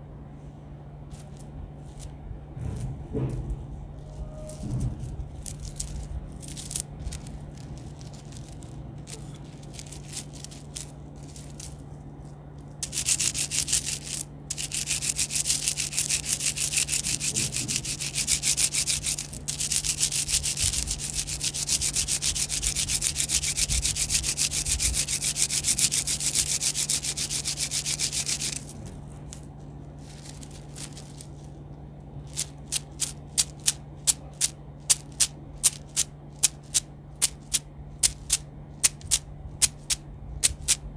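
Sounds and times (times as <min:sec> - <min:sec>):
steady low hum: 0:00.0 - 0:40.9
fast continuous scratching: 0:01.1 - 0:31.6, 0:32.2 - 0:40.9.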